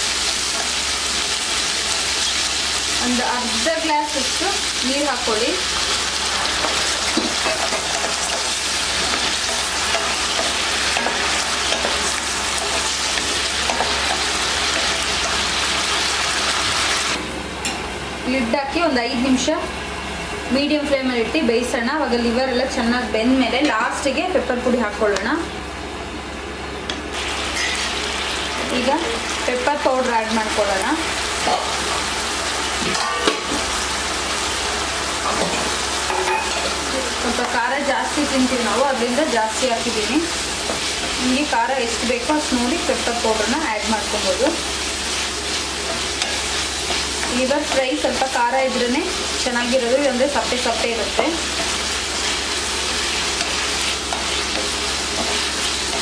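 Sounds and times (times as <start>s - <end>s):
liver sizzling in oil: 0.0s - 17.2s, 27.1s - 56.0s.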